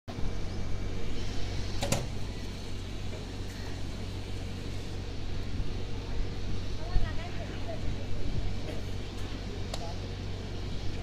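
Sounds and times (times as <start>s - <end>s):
low mechanical hum: 0.1s - 11.0s.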